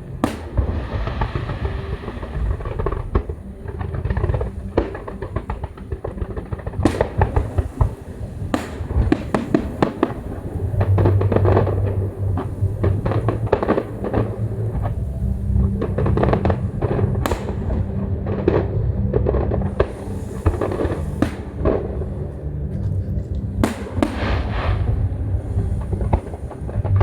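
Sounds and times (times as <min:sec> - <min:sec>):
fireworks banging and crackling: 0:00.0 - 0:27.0
low rumble of bursts: 0:00.0 - 0:27.0.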